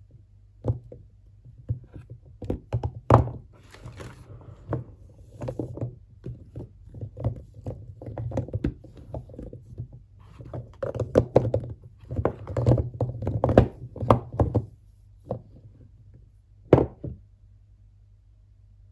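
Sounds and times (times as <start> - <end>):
soap bars handled by hand: 0.0 - 17.2.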